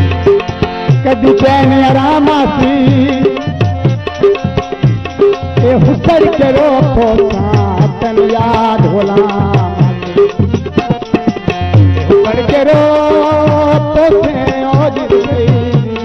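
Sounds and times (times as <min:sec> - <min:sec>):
hand drum beating: 0:00.0 - 0:16.0.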